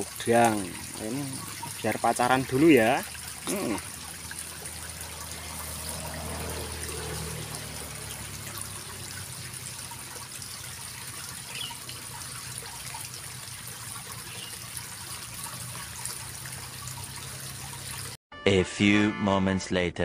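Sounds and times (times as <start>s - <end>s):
water trickling into ditch: 0.0s - 18.2s.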